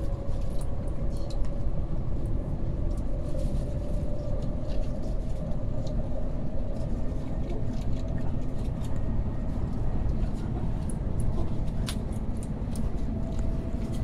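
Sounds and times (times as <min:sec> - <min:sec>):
train cabin low rumble: 0:00.0 - 0:14.0.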